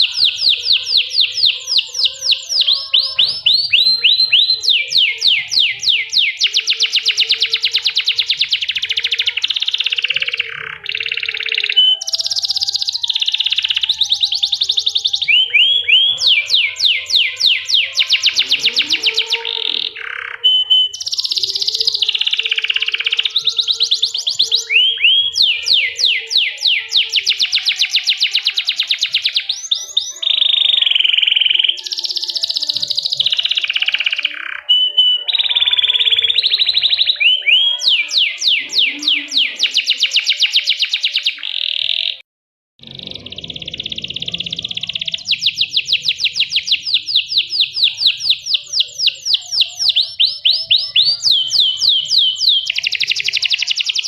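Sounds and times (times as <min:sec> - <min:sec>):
canary singing: 0:00.0 - 0:42.2, 0:42.8 - 0:54.0.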